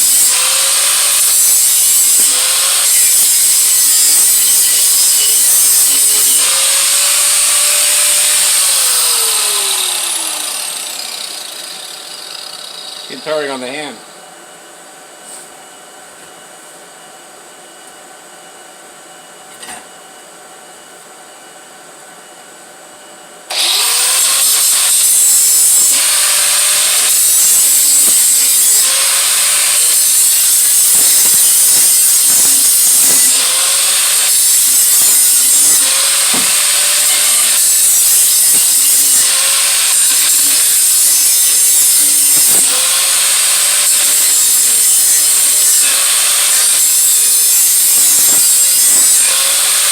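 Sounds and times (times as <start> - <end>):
power tool whining on metal pipe: 0.0 - 13.9, 23.5 - 49.9.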